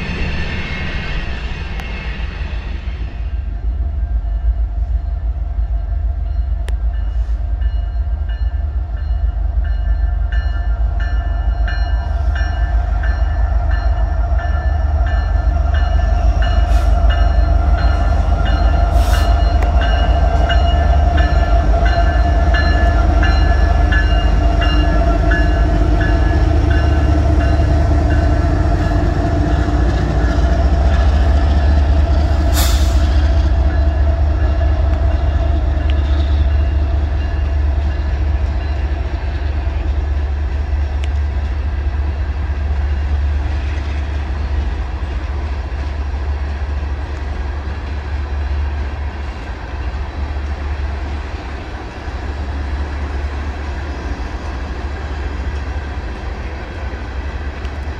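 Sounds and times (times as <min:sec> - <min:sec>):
freight train rumbling past: 0:00.0 - 0:57.9.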